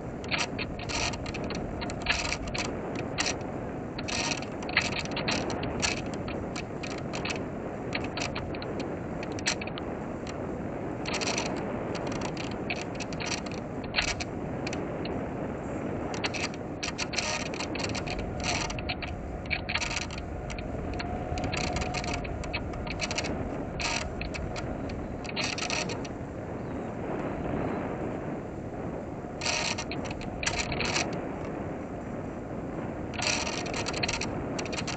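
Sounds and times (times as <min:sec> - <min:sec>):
air rushing over model plane: 0:00.0 - 0:34.9.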